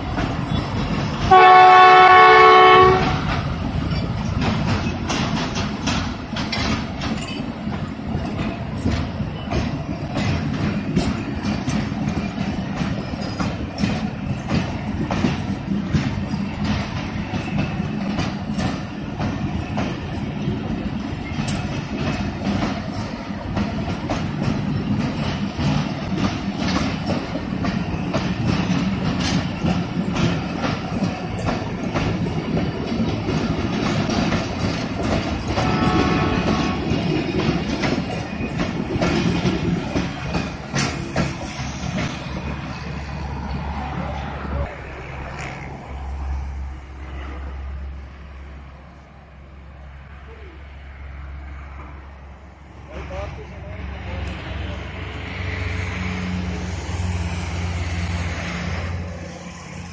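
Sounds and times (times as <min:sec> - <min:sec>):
train wheels clickety-clack: 0:00.0 - 0:47.4, 0:52.8 - 0:59.9
train wheels rumbling on rails: 0:00.0 - 0:59.9.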